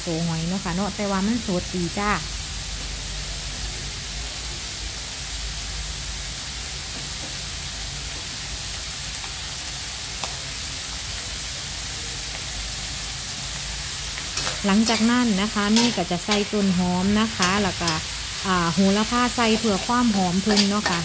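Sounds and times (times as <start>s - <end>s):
food sizzling in a wok: 0.0s - 21.0s.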